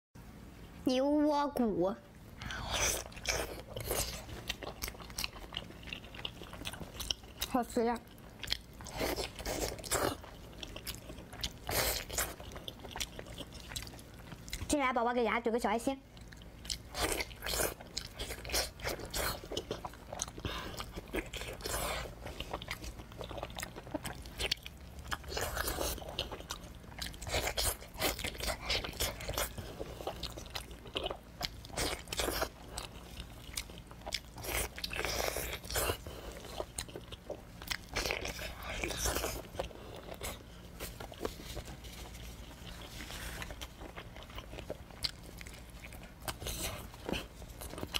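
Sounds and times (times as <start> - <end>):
wet biting and chewing: 2.4 - 14.7, 16.2 - 47.9.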